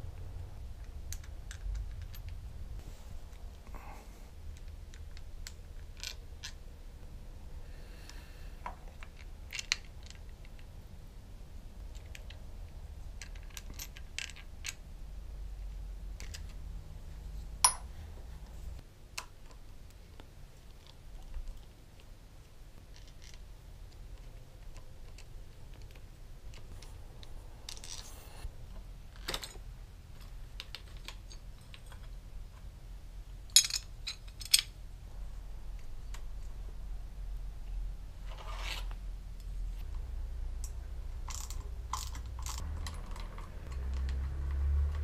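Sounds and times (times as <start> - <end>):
faint low hum: 0.0 - 45.0.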